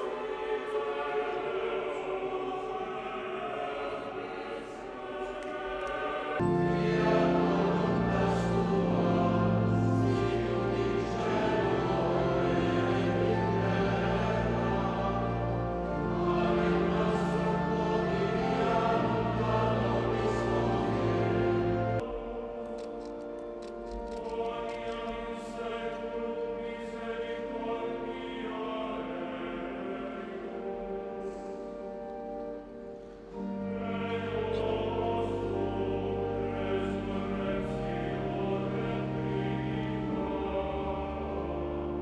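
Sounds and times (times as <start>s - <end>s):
choir singing sacred music: 0.0s - 42.0s.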